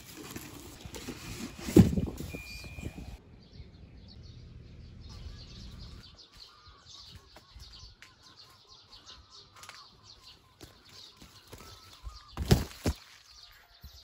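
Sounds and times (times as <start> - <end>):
small birds chirping: 2.3 - 14.0.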